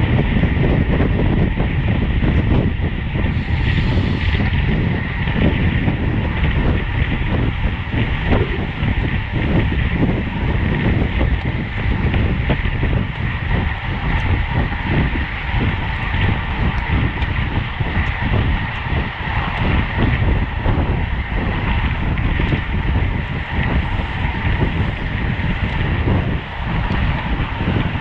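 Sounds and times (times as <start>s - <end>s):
road and tyre noise: 0.0s - 28.0s
wind buffeting microphone: 0.0s - 28.0s.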